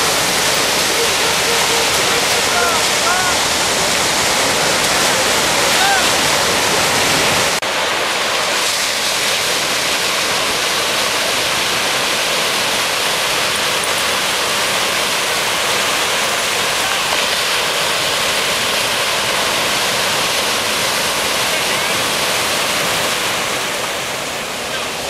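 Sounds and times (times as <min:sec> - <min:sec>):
ocean surf breaking: 0:00.0 - 0:25.0.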